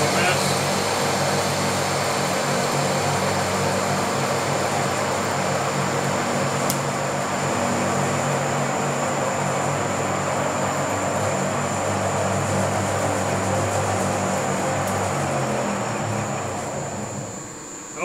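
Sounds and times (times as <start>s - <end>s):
lathe cutting steel: 0.0s - 17.5s
thin high whine: 0.0s - 18.0s.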